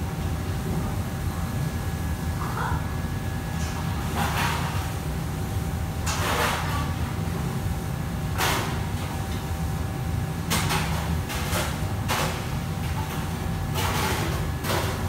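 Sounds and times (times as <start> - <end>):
wok range and hood roaring: 0.0 - 15.0.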